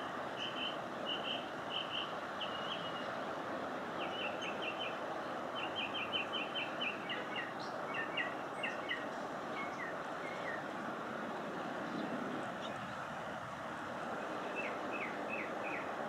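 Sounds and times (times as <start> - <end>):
songbird singing: 0.0 - 3.2, 3.9 - 10.8, 11.4 - 13.1, 14.2 - 16.0.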